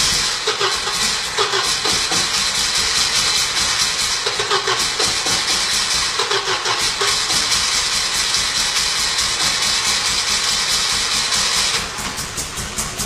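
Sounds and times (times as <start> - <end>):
turbocharged engine running: 0.0 - 13.0.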